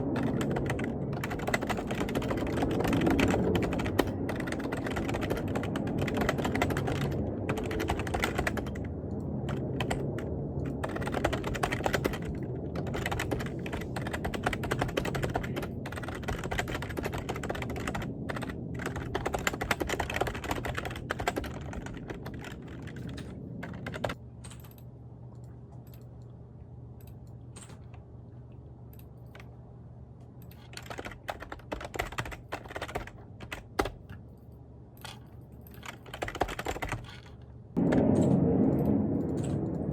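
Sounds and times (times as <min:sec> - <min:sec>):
typing on computer keyboard: 0:00.0 - 0:24.9, 0:30.4 - 0:34.2, 0:35.0 - 0:38.3
low hum: 0:00.0 - 0:31.6, 0:32.4 - 0:39.9.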